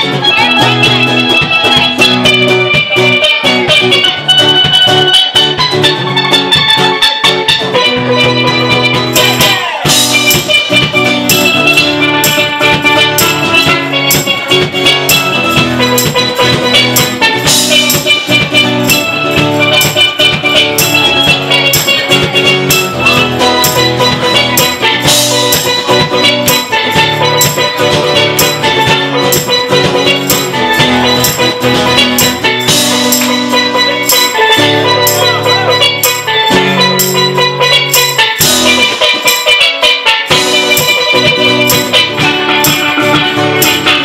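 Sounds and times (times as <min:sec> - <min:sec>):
acoustic guitar: 0:00.0 - 0:44.0
steel pan: 0:00.0 - 0:44.0
kick drum and cymbal beat: 0:07.8 - 0:44.0.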